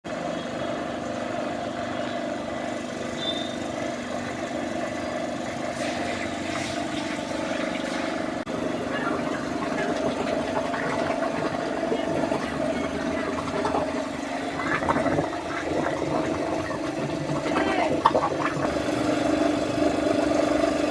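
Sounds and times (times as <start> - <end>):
engine running steadily: 0.1 - 20.9.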